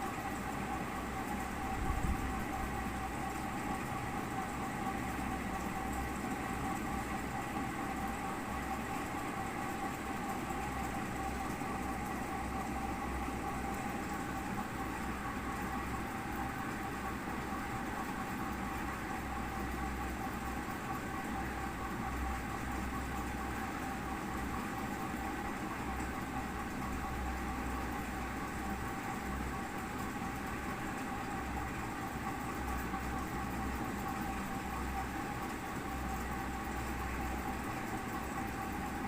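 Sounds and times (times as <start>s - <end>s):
mechanical hum with low rumble: 0.0s - 39.0s.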